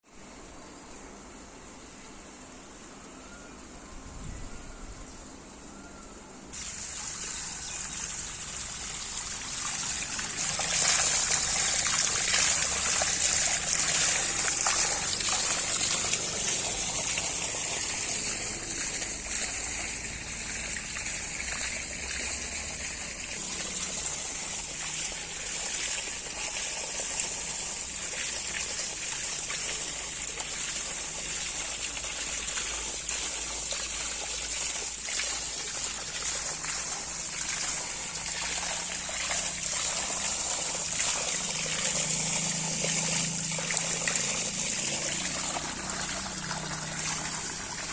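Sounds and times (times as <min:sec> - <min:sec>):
water trickling and splashing: 0:06.5 - 0:47.9.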